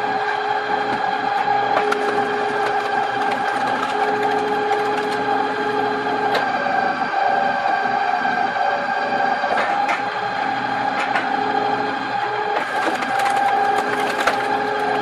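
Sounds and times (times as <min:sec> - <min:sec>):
log splitter motor humming: 0:00.0 - 0:15.0.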